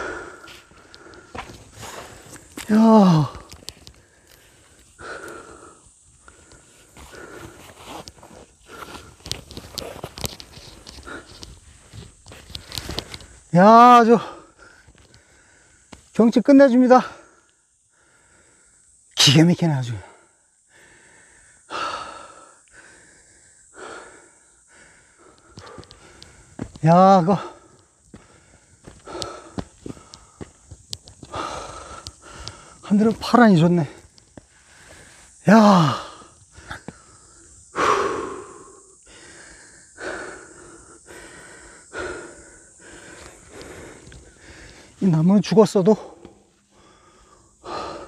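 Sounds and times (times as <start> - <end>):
man breathing hard: 0.0 - 13.5, 14.2 - 16.1, 17.0 - 19.1, 20.0 - 26.8, 27.4 - 32.9, 33.9 - 45.0, 45.9 - 48.0.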